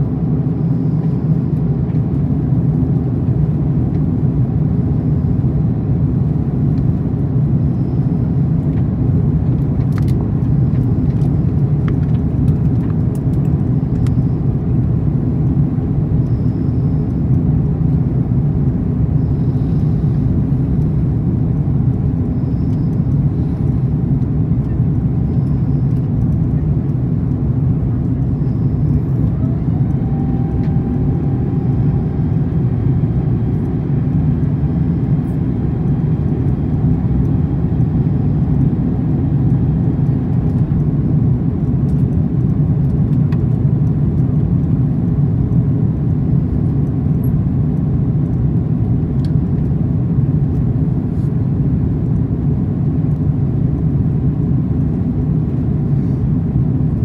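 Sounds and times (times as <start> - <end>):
faint whine: 0.0 - 57.0
jet engines humming: 0.0 - 57.0.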